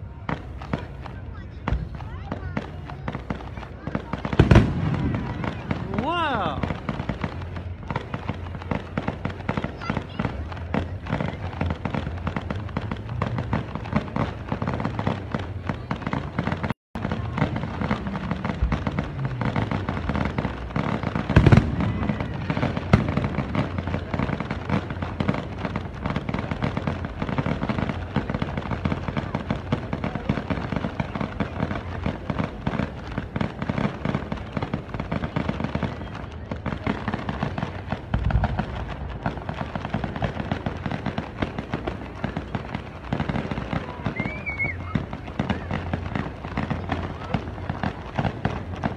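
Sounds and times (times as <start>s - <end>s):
fireworks crackling and popping: 0.0s - 48.9s
loud firework bang: 4.1s - 35.3s, 36.8s - 48.9s.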